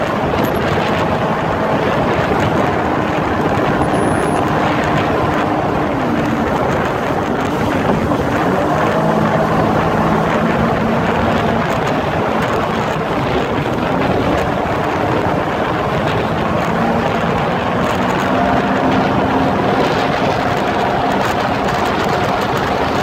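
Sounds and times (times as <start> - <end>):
jet ski engine running: 0.0 - 23.0
wind and water rushing: 0.0 - 23.0.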